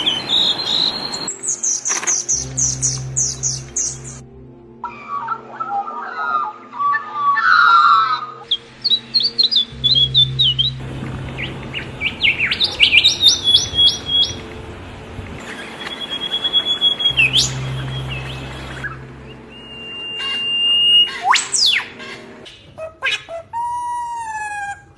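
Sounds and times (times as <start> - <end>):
songbird singing: 0.0 - 24.8.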